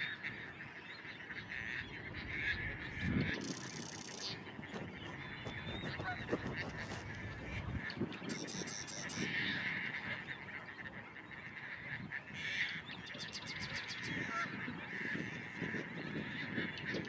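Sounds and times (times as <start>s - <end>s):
waterbirds honking and chattering: 0.0s - 17.0s.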